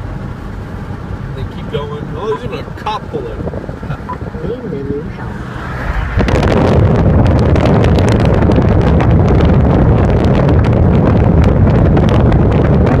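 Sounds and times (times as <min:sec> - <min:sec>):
wind buffeting microphone: 0:02.4 - 0:13.0.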